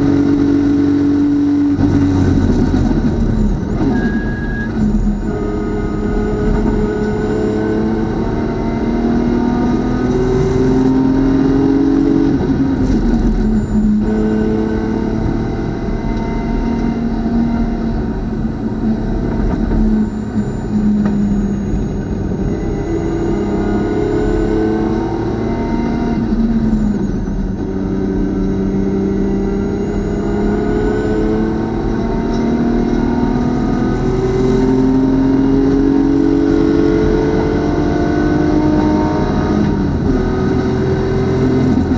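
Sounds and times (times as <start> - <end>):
race car engine accelerating: 0.0 - 41.9.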